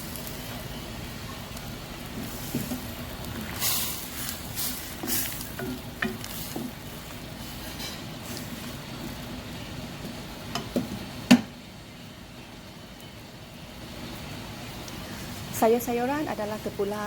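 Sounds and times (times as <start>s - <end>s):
soup boiling in a wok: 0.0s - 17.0s.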